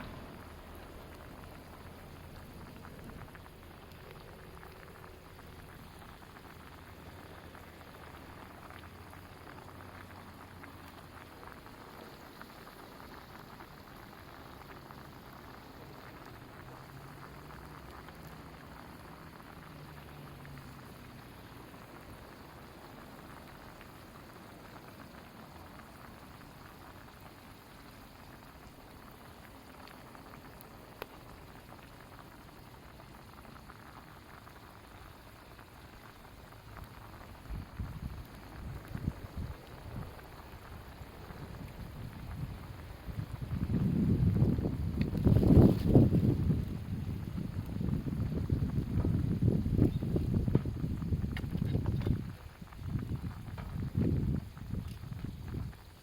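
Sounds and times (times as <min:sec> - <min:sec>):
food cooking over campfire: 0:00.0 - 0:56.0.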